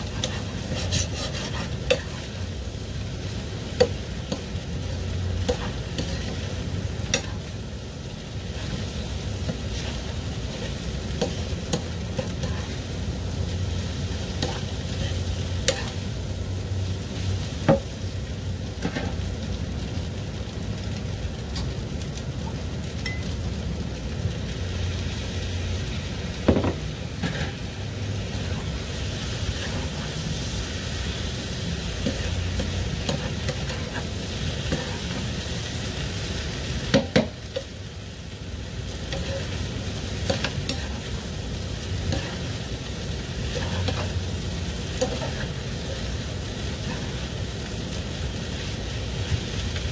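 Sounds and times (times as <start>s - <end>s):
food sizzling in frying pan: 0.0s - 49.9s.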